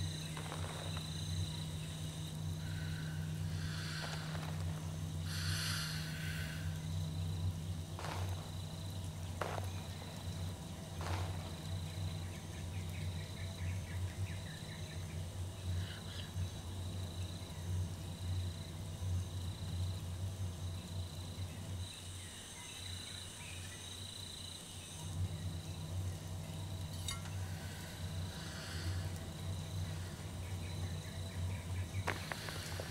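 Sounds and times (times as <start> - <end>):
high cricket-like chirring: 0.0 - 32.9
steady low hum: 0.0 - 32.9.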